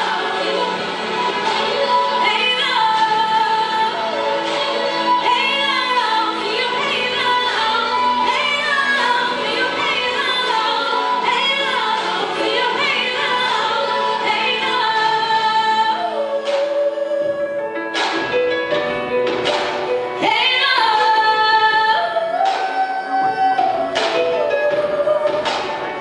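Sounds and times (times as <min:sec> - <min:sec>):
musical accompaniment: 0:00.0 - 0:26.0.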